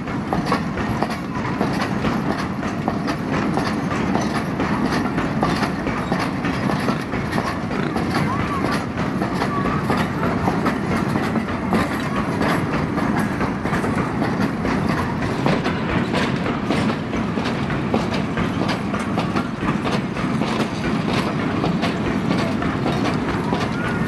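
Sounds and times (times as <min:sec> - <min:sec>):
train wheels rumbling on rails: 0:00.0 - 0:24.0
wheels clicking over rail joints: 0:00.0 - 0:24.0.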